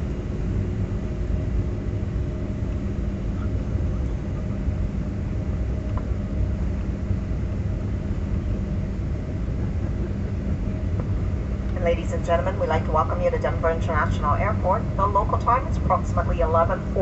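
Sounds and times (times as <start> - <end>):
aircraft cabin rumble: 0.0 - 17.0
steady hums: 0.0 - 17.0.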